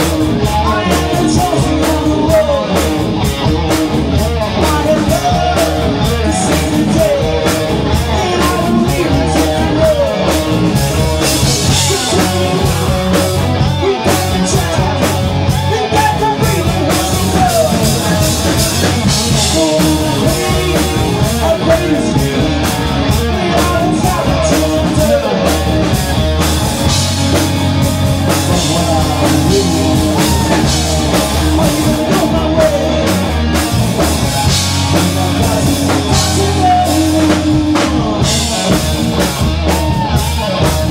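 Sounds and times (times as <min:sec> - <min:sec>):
bass guitar: 0:00.0 - 0:40.9
drum kit: 0:00.0 - 0:40.9
electric guitar: 0:00.0 - 0:40.9
man singing: 0:00.0 - 0:40.9.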